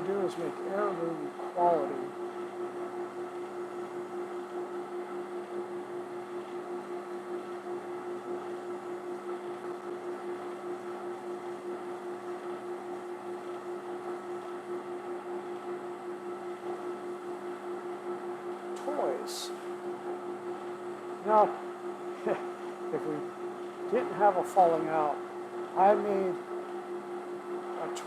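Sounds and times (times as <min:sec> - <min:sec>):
workshop machine motor hum: 0:00.0 - 0:28.0.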